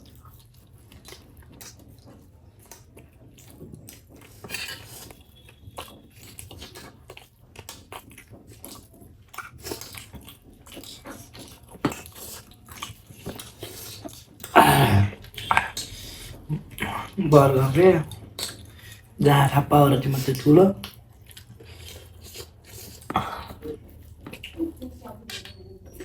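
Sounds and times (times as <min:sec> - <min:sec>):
chewing and biting food: 0:00.0 - 0:26.0.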